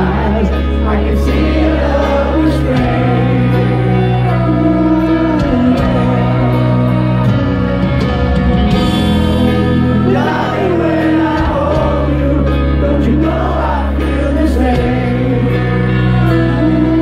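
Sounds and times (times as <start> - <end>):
bass: 0.0 - 17.0
keyboard chords: 0.0 - 17.0
man singing: 0.0 - 17.0.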